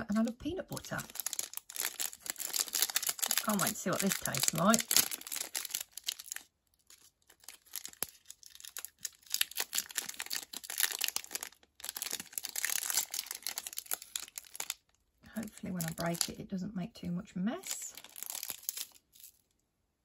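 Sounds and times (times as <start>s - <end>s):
snack wrapper crinkling: 0.2s - 16.3s, 17.6s - 19.6s.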